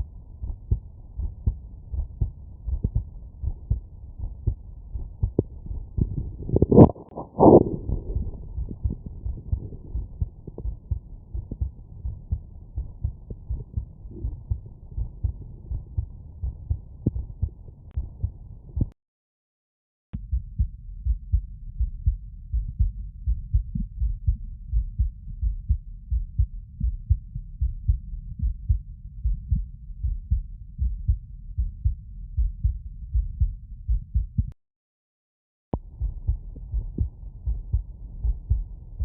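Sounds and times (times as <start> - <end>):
heartbeat thumps: 0.0 - 19.0, 20.2 - 34.6, 35.8 - 39.0.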